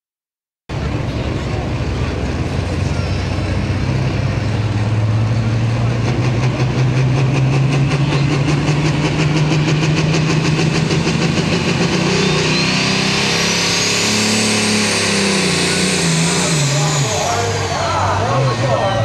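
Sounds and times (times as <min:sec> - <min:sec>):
diesel engine running hard: 0:00.7 - 0:19.0.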